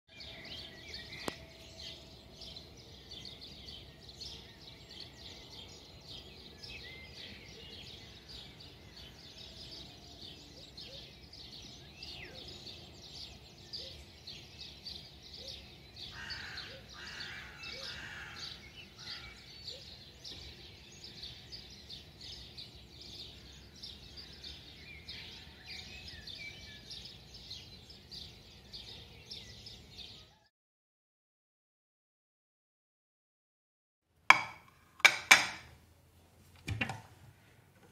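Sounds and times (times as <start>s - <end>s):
birds chirping: 0.1s - 30.5s.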